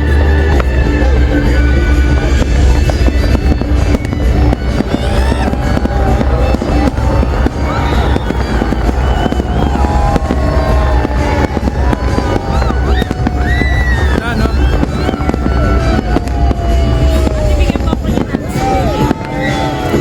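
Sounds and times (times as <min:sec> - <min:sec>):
fireworks booms and crackling: 0:00.0 - 0:20.0
whistling fireworks: 0:00.0 - 0:20.0.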